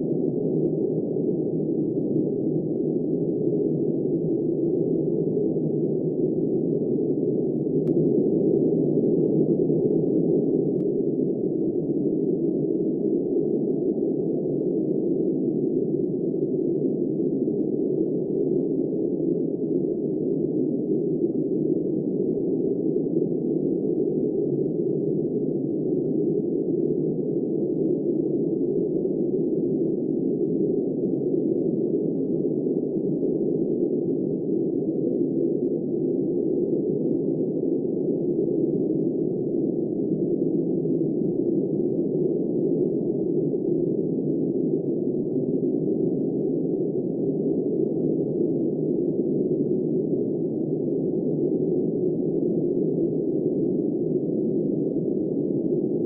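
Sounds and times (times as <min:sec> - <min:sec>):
muffled blizzard wind: 0:00.0 - 0:56.0.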